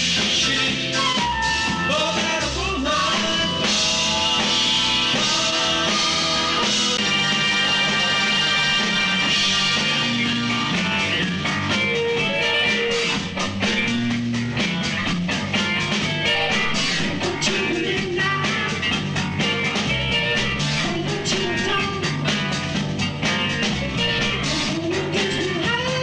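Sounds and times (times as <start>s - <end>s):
drums keeping a steady beat: 0.0s - 26.0s
electric guitar: 0.0s - 26.0s.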